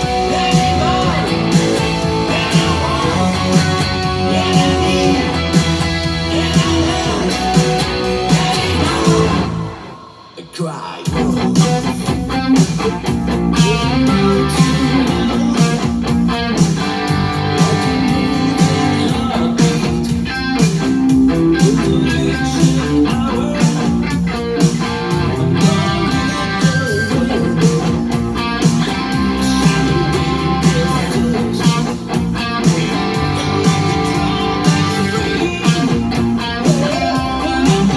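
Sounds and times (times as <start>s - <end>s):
backing track with drum beat: 0.0s - 10.0s, 11.0s - 37.9s
electric guitar riffs: 0.0s - 37.9s.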